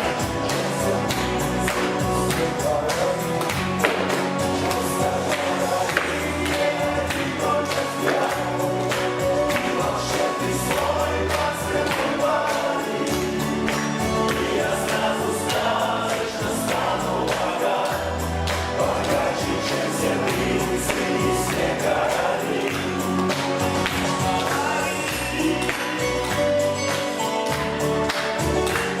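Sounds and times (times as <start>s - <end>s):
song with chorus over beat: 0.0s - 29.0s.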